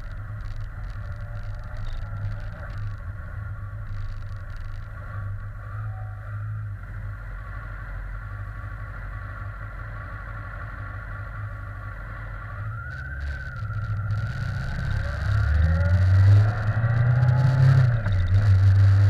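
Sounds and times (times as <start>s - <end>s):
bike low rumble and hum: 0.0s - 19.0s.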